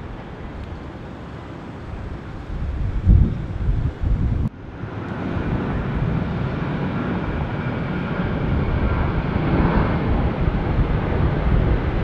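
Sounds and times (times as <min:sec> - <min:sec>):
distant jet engines whining: 0:00.0 - 0:12.0.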